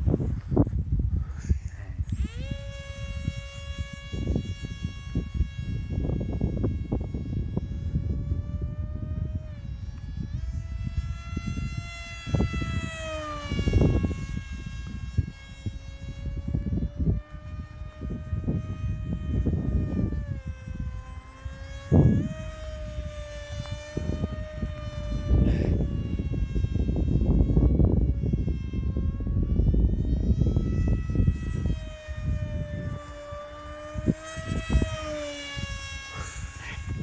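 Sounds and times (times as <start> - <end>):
model plane propeller whine: 0.0 - 37.0
wind rumbling on microphone: 0.0 - 37.0.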